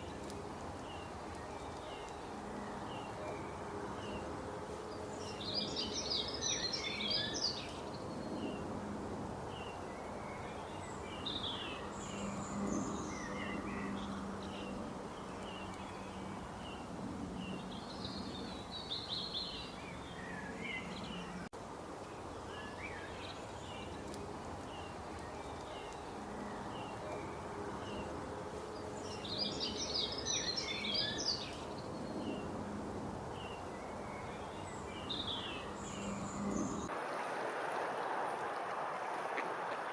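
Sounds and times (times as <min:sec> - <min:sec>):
birds chirping and trilling: 0:00.0 - 0:21.5, 0:22.2 - 0:36.9
background hiss: 0:00.0 - 0:39.9.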